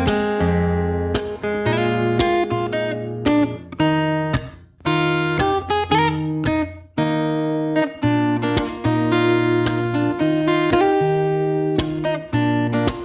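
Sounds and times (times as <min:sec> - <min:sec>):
plucked guitar notes: 0:00.0 - 0:13.0.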